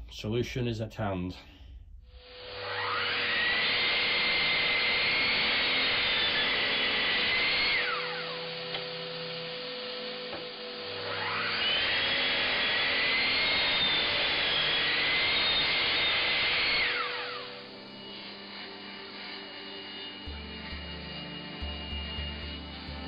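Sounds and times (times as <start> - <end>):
dust extractor running: 2.2 - 23.0
mitre saw motor running: 2.2 - 23.0.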